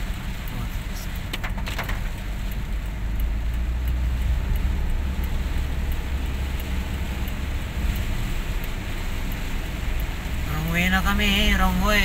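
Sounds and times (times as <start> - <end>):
car engine and tyres rumbling: 0.0 - 12.0
faint light ticks: 0.0 - 12.0.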